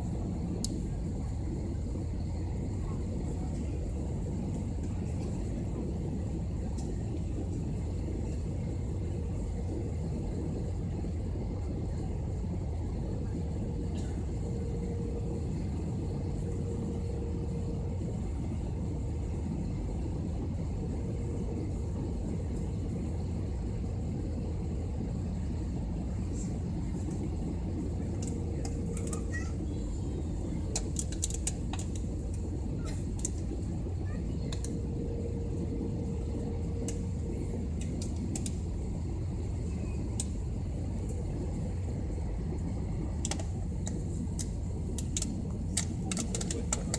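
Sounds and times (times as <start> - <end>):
jet engines rumbling: 0.0 - 46.9
rushing air in cabin: 0.0 - 46.9.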